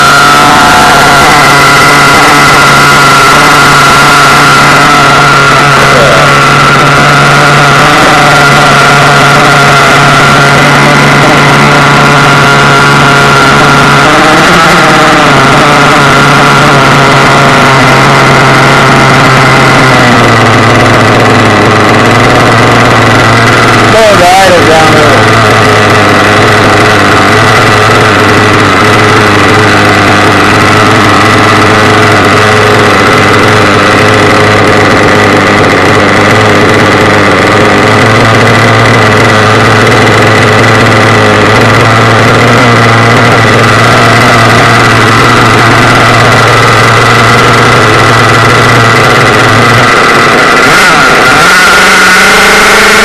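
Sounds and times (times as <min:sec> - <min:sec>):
small nitro engine idling: 0:00.0 - 0:53.0.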